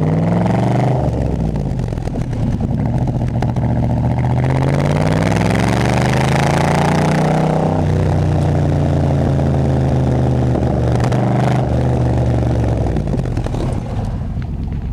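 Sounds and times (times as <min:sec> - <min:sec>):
vehicle engine revving under load: 0:00.0 - 0:14.9.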